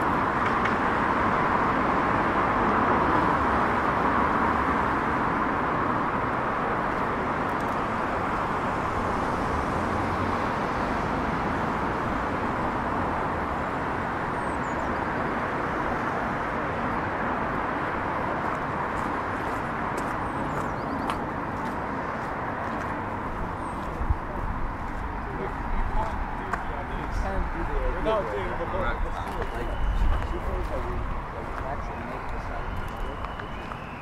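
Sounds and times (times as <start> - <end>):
city road traffic: 0.0 - 34.0.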